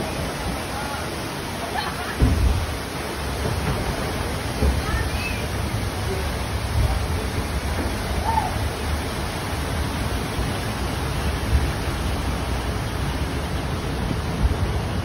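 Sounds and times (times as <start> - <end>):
water rushing in channel: 0.0 - 15.0.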